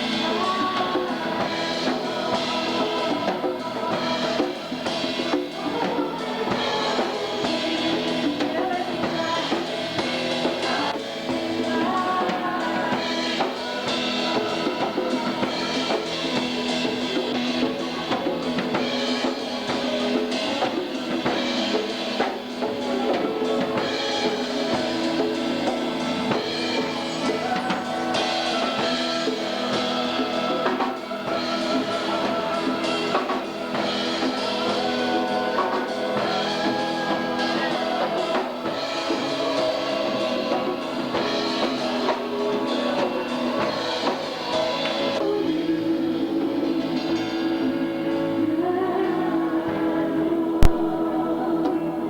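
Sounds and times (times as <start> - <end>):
drum kit beat: 0.0 - 47.7, 50.6 - 51.2
live band music: 0.0 - 52.0.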